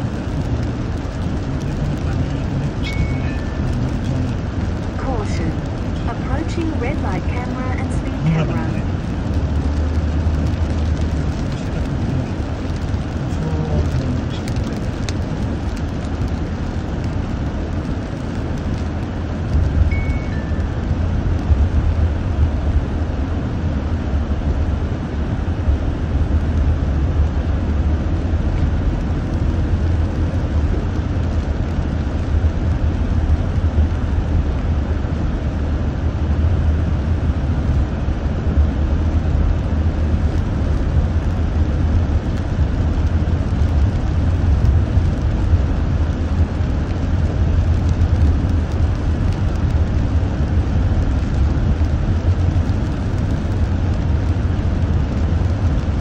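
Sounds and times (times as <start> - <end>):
car driving low rumble: 0.0 - 56.0.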